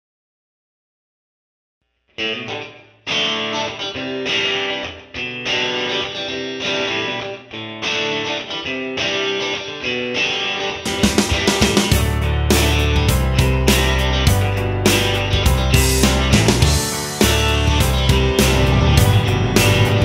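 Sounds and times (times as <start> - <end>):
strummed guitar chords: 2.2 - 20.0.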